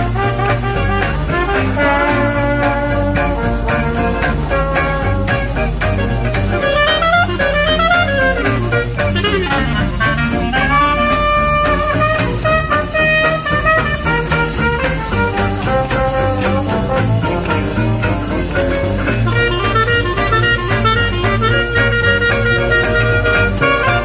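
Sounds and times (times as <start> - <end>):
clarinet: 0.0 - 24.0
double bass: 0.0 - 24.0
drum kit: 0.0 - 24.0
jazz band playing swing: 0.0 - 24.0
trombone: 0.0 - 24.0
trumpet: 0.0 - 24.0.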